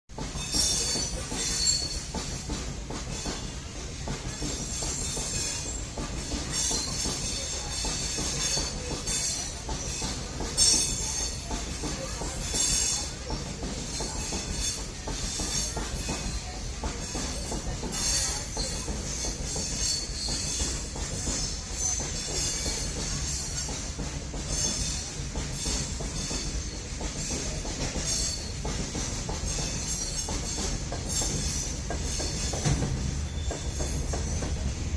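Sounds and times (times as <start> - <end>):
low train rumble: 0.1 - 34.9
train wheels screeching: 0.1 - 34.9.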